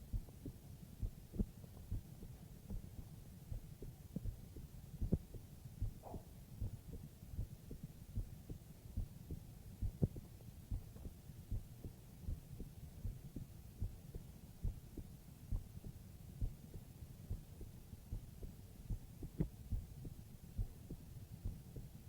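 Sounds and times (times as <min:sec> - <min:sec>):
heartbeat thumping: 0:00.0 - 0:22.0.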